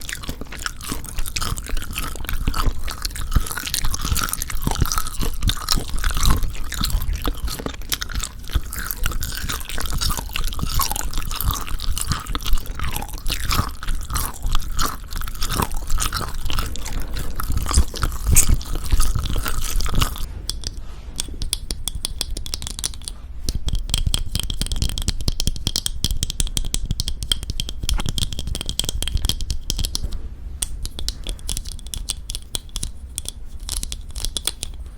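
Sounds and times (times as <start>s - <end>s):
chewing jerky: 0.0s - 34.9s
crisp clicks: 0.0s - 34.9s.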